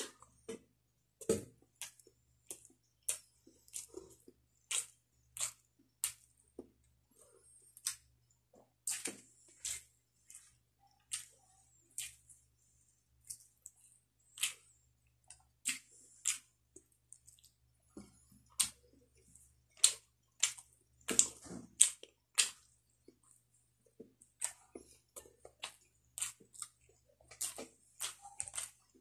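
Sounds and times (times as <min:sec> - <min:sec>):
man chewing food: 0:00.0 - 0:29.0.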